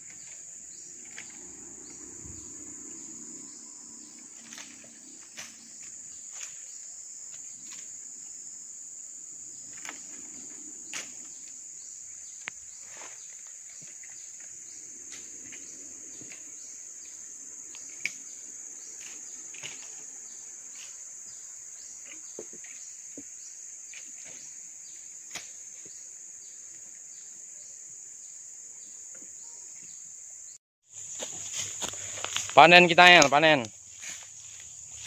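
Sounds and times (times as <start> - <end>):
insect chorus drone: 0.0 - 35.0.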